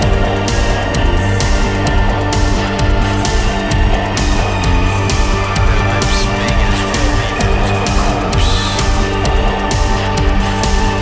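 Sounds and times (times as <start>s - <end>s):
drums playing steady beat: 0.0s - 11.0s
low bass line: 0.0s - 11.0s.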